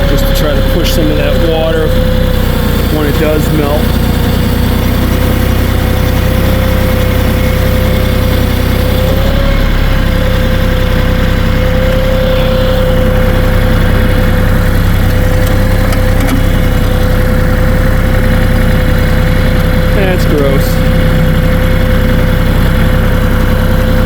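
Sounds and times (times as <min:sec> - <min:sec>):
steady high whine: 0:00.0 - 0:24.0
tractor diesel engine running: 0:00.0 - 0:24.0.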